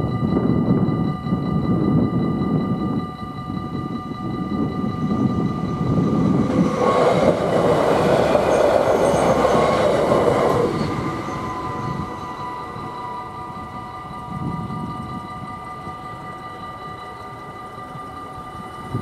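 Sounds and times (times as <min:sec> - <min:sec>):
crossing warning bells ringing: 0:00.0 - 0:19.0
train rumble and wheel noise: 0:00.0 - 0:19.0.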